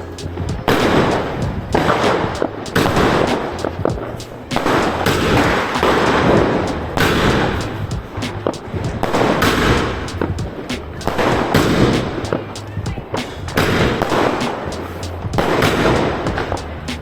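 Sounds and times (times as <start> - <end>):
background music: 0.0 - 17.0
firecrackers crackling: 0.0 - 17.0.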